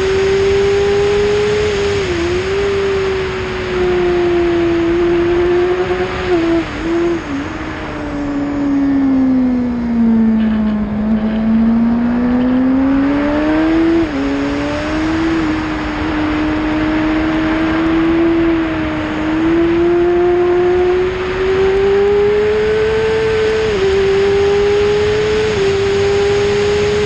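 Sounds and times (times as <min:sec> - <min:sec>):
motorcycle engine running hard: 0:00.0 - 0:27.0
wind rushing over microphone: 0:00.0 - 0:27.0.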